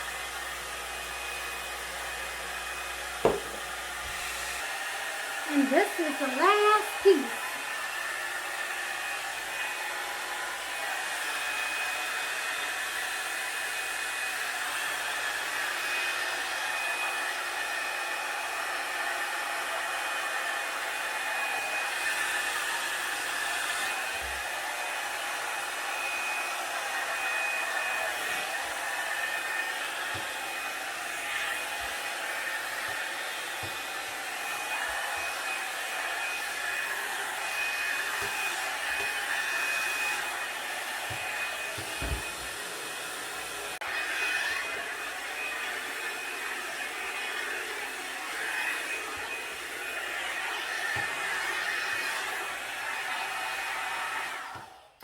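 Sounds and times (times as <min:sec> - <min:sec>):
blow dryer brush running: 0:00.0 - 0:55.0.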